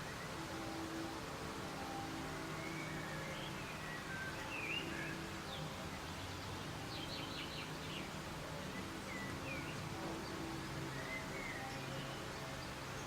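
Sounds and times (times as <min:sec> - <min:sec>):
birds chirping: 0:00.0 - 0:13.0
soft steady rain: 0:00.0 - 0:13.0.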